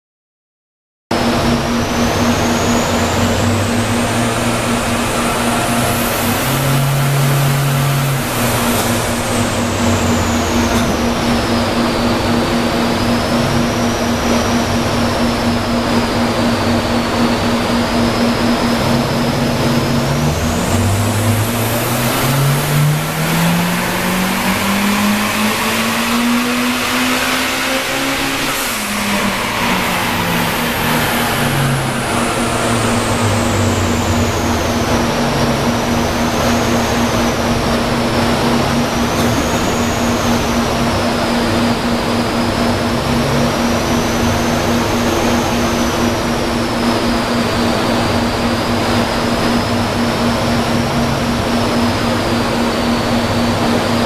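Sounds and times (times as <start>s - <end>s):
car engine revving: 1.1s - 54.0s
high whine: 1.1s - 54.0s.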